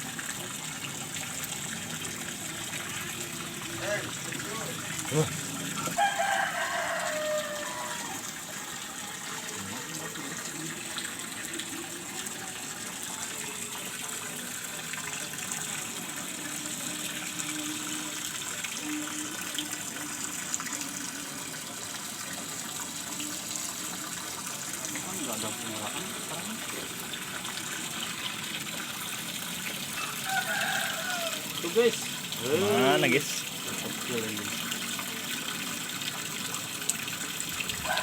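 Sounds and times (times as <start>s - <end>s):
running water rushing: 0.0s - 38.0s.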